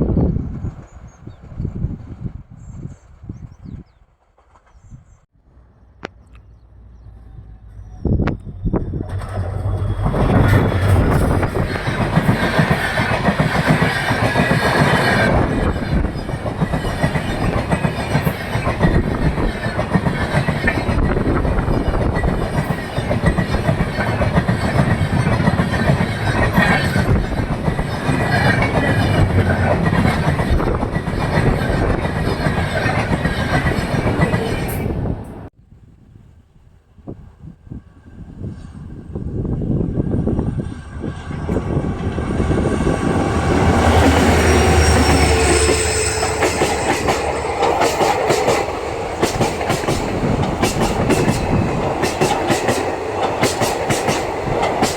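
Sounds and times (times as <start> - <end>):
train wheels on rails: 7.9 - 35.5, 38.1 - 54.9.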